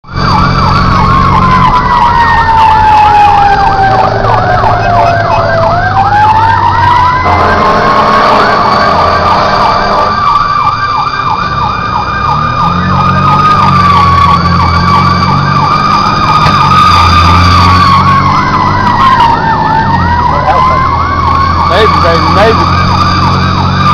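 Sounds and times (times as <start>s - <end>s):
wailing siren: 0.0s - 23.9s
warbling yelp siren: 0.1s - 23.9s.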